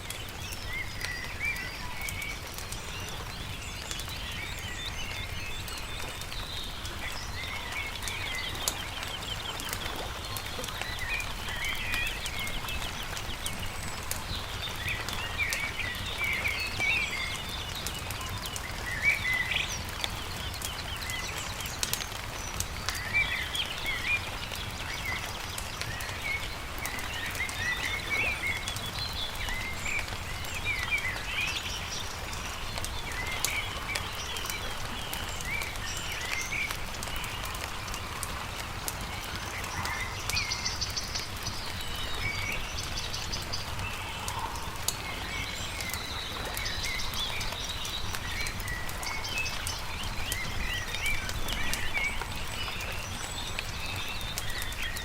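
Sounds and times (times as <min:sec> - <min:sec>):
campfire pops and crackles: 0:00.0 - 0:55.0
birds chirping and singing: 0:00.2 - 0:55.0.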